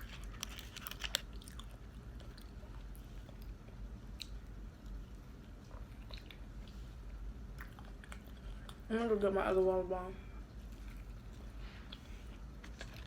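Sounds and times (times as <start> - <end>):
person chewing food: 0.0 - 8.9, 10.5 - 13.0.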